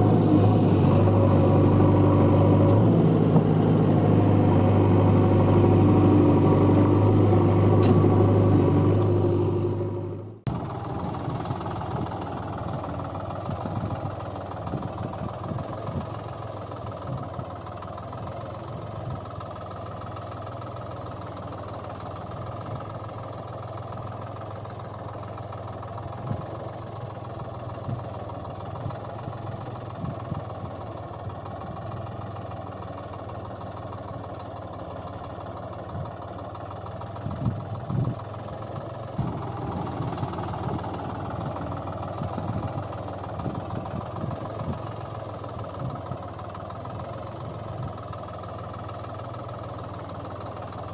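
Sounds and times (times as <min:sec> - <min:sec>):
tractor engine drone: 0:00.0 - 0:50.9.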